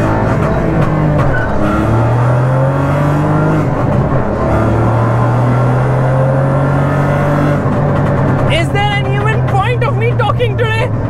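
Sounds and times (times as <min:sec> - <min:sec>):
car engine accelerating through gears: 0:00.0 - 0:11.0.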